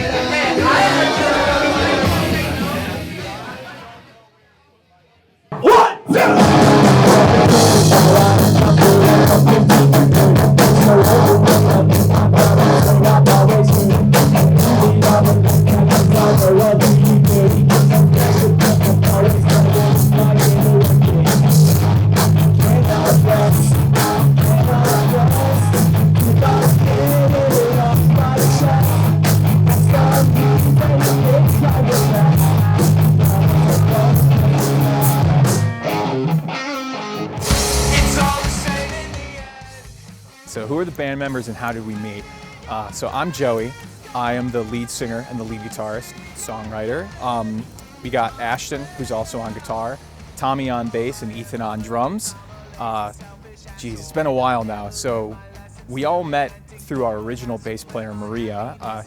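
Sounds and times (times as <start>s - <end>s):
distorted electric guitars: 0.0s - 4.1s, 5.5s - 59.0s
fast drumming: 5.5s - 35.8s, 37.4s - 59.0s
bass guitar: 5.6s - 59.0s.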